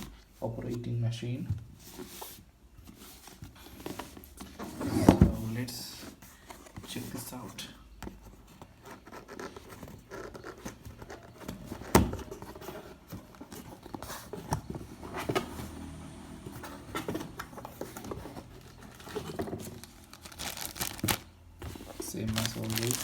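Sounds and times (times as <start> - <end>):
cardboard and packaging rustling: 1.6 - 23.0.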